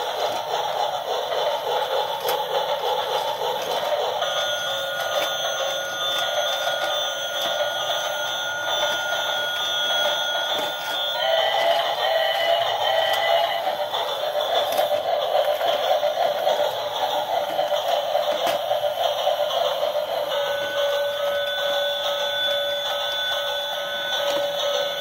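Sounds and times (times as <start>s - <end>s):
toy train mechanisms running: 0.0s - 25.0s
toy trains electronic tunes: 0.0s - 25.0s.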